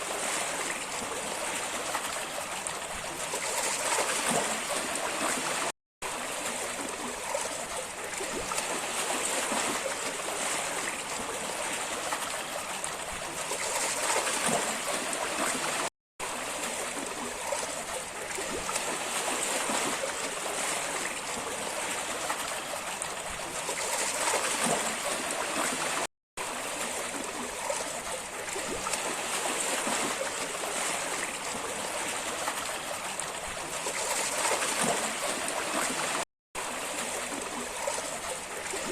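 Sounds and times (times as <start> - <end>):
rushing splashing water: 0.0 - 38.9.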